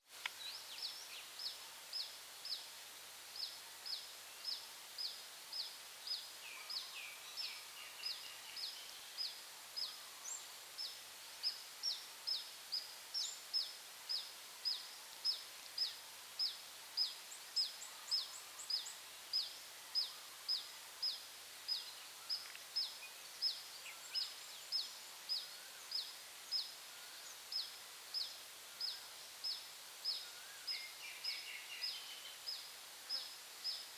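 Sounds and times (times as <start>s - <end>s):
bird chirping: 3.4s - 33.9s.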